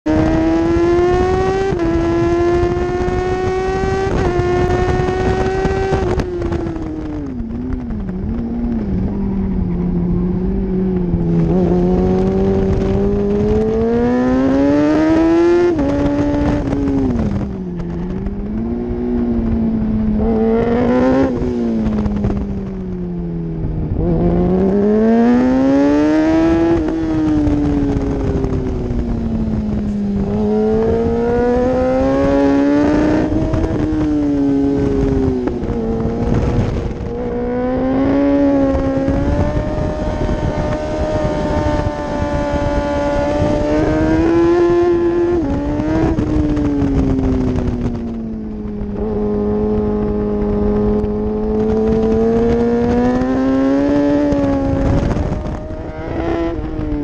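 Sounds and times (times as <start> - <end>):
motorcycle engine revving through gears: 0.0 - 57.0
wind noise: 0.0 - 57.0.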